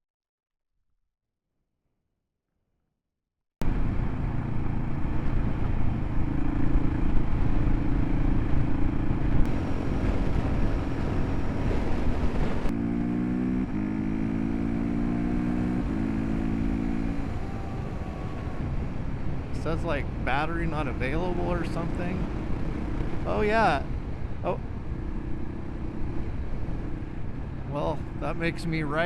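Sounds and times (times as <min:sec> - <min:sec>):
motorcycle engine running: 0:03.6 - 0:29.0
wind and road noise: 0:03.6 - 0:29.0.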